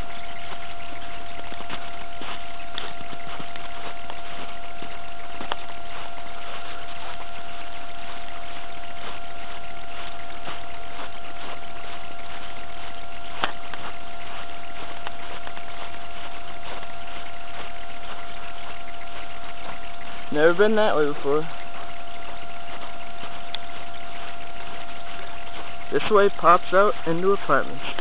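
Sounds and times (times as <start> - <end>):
constant high hum: 0.0 - 28.0
footsteps crunching on snow: 0.0 - 28.0
steady hiss: 0.0 - 28.0.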